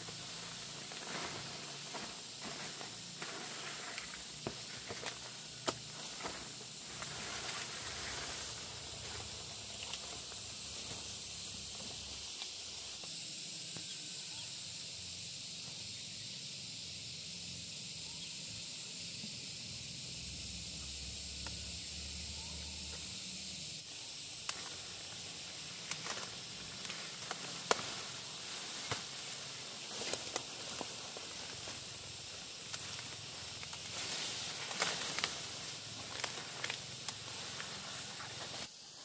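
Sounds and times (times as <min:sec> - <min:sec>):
high-pitched outdoor hiss: 0:00.0 - 0:39.0.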